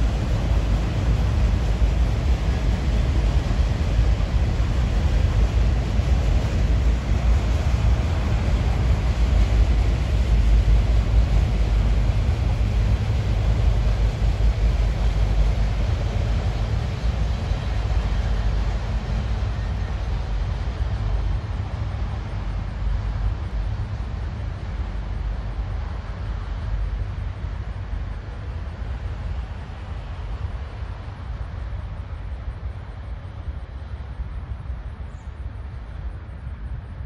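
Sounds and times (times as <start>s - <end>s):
freight train rumbling on rails: 0.0s - 37.0s.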